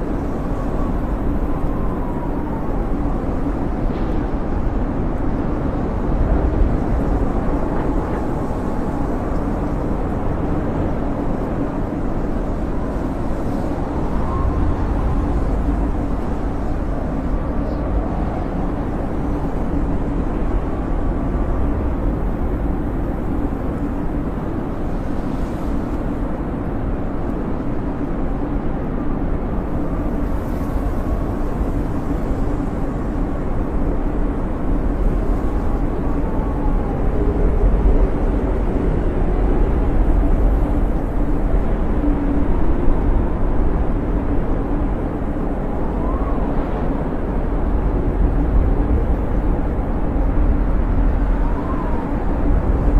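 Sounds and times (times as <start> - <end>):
faint wind whistles: 0.0 - 52.9
wind blowing with deep rumble: 0.0 - 52.9.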